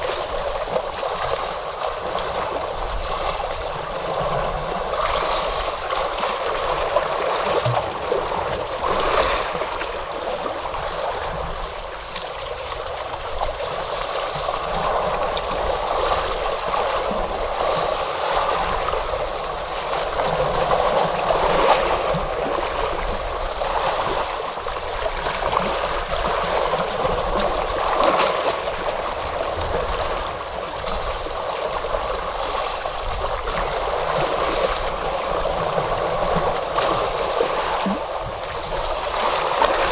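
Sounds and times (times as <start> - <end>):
ocean surf washing on shore: 0.0 - 39.9.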